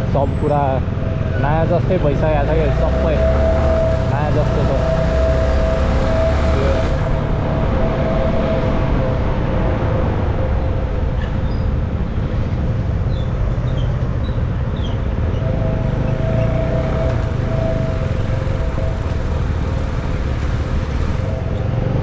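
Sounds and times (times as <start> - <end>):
steady tone: 0.0 - 13.1, 15.2 - 22.0
road and wind noise: 0.0 - 22.0.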